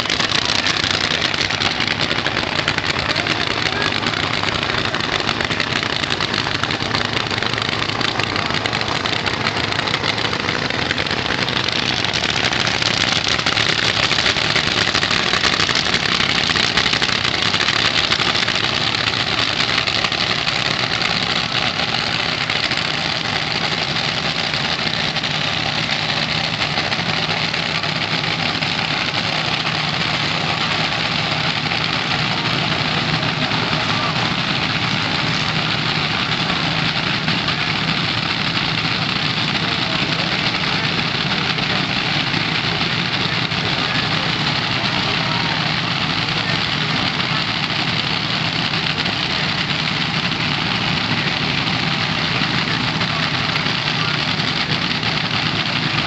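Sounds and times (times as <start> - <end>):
drag car engines roaring: 0.0 - 56.0.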